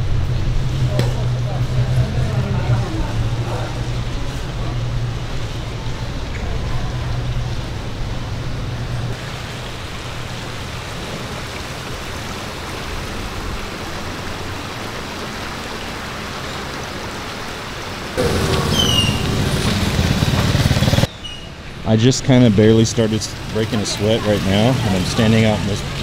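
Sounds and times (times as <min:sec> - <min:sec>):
street noise hiss: 0:00.0 - 0:26.0
vehicle engine hum: 0:00.0 - 0:26.0.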